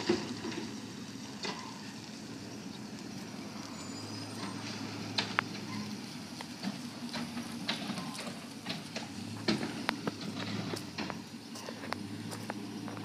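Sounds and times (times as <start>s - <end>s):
pickup truck engine hum: 0.0s - 13.0s
tyre and road noise: 0.0s - 13.0s.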